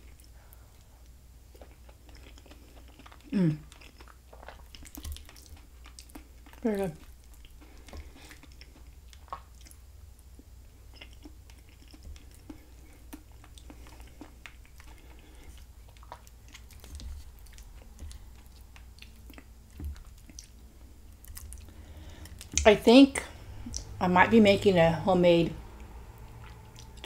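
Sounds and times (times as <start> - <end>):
quiet chewing of food: 0.0 - 24.0, 25.7 - 27.0.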